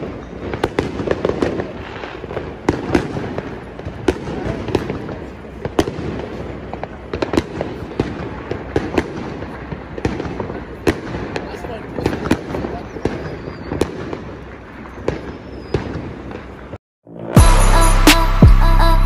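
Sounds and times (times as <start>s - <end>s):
distant fireworks rumble: 0.0s - 16.8s
fireworks bangs and crackles: 0.0s - 18.8s.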